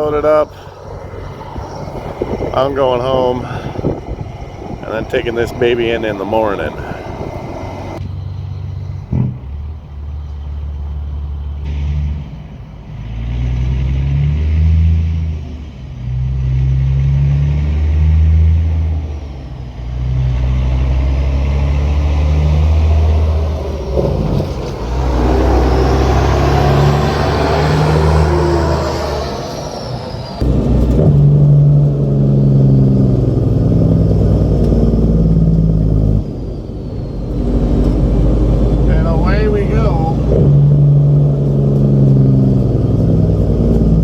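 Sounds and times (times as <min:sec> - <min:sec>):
vehicle engine accelerating: 0:00.0 - 0:44.0.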